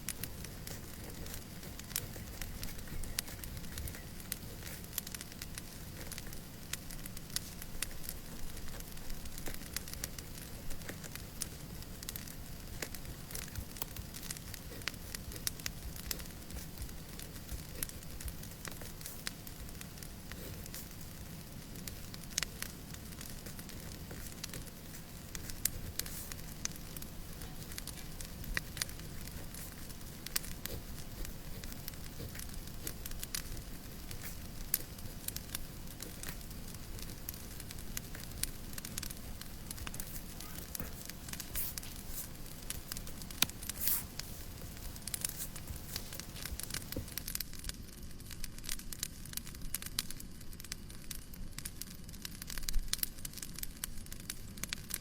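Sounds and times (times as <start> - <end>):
fireplace crackling: 0.0 - 55.0.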